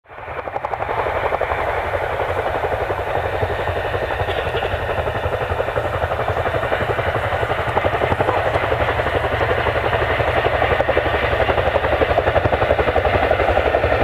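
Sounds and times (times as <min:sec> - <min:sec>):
helicopter rotors chopping: 0:00.1 - 0:14.0
turbine engines running: 0:00.1 - 0:14.0.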